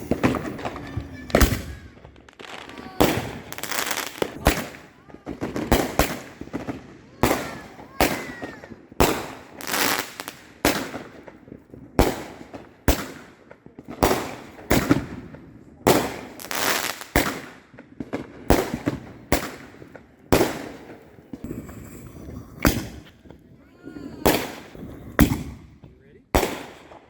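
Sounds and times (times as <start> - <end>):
fireworks bangs with echoing crackle: 0.0 - 27.0.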